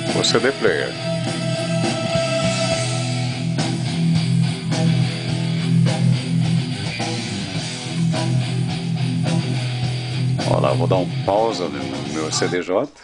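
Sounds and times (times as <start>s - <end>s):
strummed guitar and bass music: 0.0s - 12.6s.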